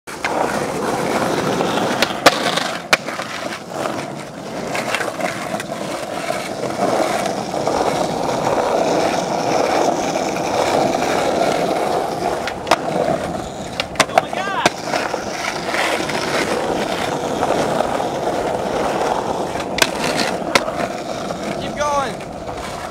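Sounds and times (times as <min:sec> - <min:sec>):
skateboard clacks: 0:00.1 - 0:22.9
skateboard wheels rolling on asphalt: 0:00.1 - 0:22.9.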